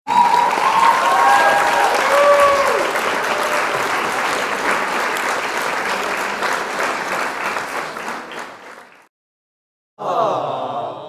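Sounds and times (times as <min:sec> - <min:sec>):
crowd applause: 0:00.1 - 0:09.1.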